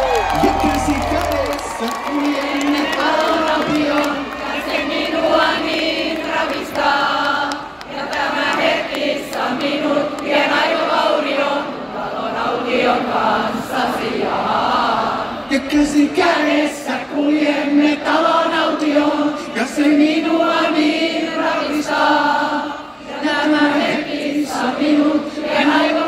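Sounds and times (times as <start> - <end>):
crowd singing in unison: 1.8 - 26.0.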